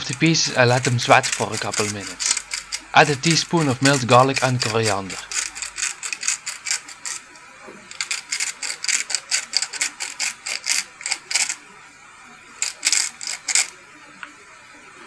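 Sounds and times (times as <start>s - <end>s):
spice mill grinding clicks: 0.0s - 7.2s, 7.9s - 11.6s, 12.6s - 14.3s.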